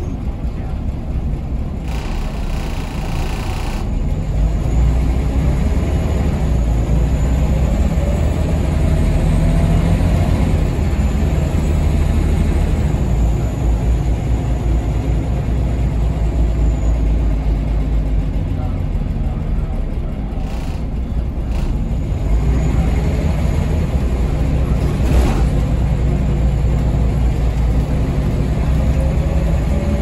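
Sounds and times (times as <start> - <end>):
diesel bus engine drone: 0.0 - 30.0.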